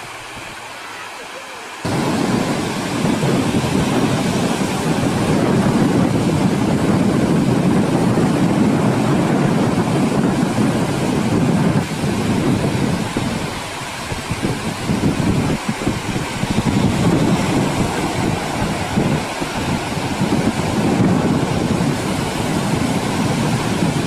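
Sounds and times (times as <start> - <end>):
waves breaking on beach: 0.0 - 24.0.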